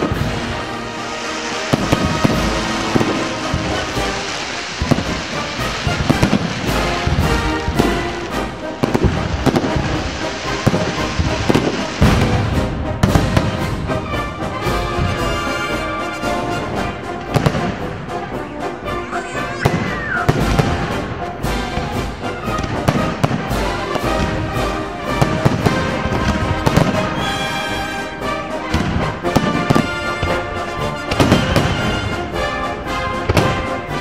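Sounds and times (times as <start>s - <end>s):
firework shells bursting: 0.0s - 17.9s, 19.6s - 34.0s
music: 0.0s - 34.0s.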